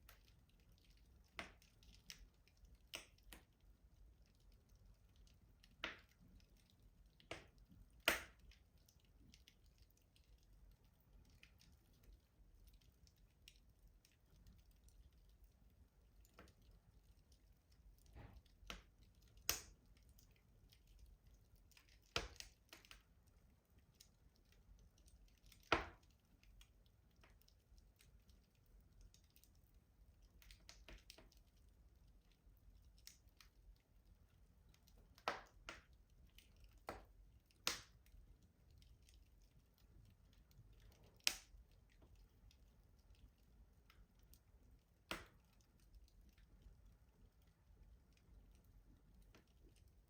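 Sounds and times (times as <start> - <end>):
soft fire crackling: 0.0 - 50.0.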